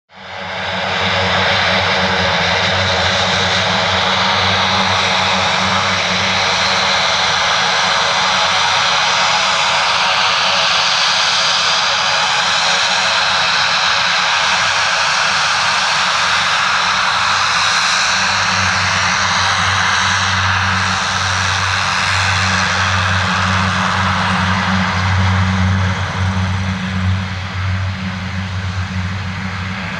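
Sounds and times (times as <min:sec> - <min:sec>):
turboprop engines running: 0:00.1 - 0:29.9.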